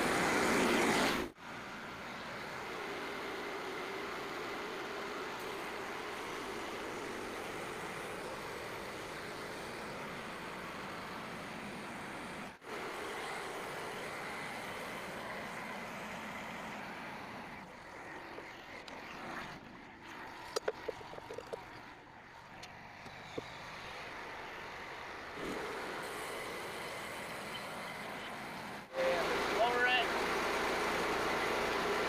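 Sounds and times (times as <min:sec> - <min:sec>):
band sawmill running: 0:00.0 - 0:32.0.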